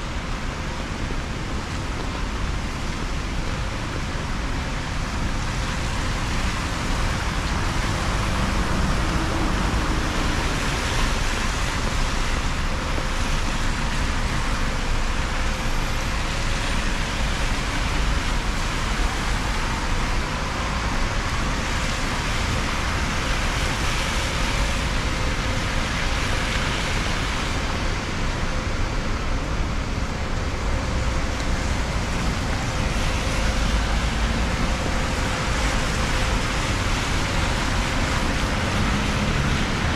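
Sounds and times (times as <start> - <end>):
tyres hissing on wet road: 0.0 - 39.9.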